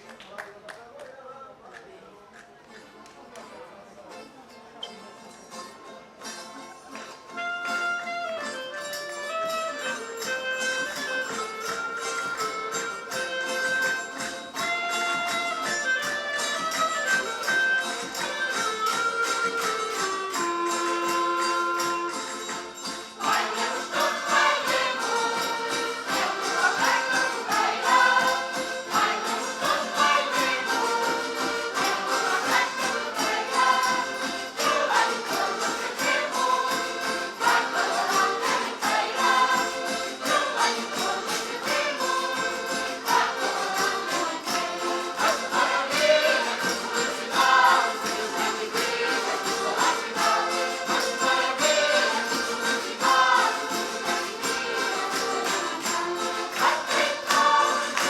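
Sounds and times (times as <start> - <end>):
jingling percussion: 4.8 - 58.0
folk group singing in chorus: 10.8 - 58.0.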